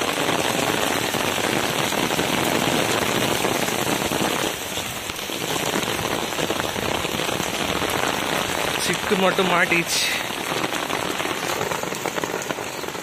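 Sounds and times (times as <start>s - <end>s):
heavy rain on concrete roof: 0.0s - 13.0s.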